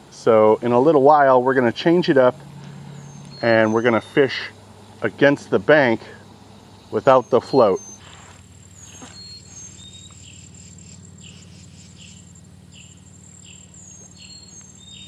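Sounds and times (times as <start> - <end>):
insects buzzing and chirping: 0.0 - 15.0.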